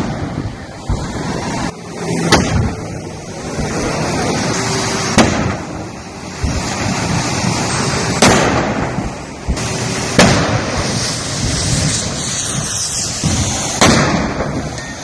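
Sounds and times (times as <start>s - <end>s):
gas explosions: 0.0s - 15.0s
steady noisy background: 0.0s - 15.0s.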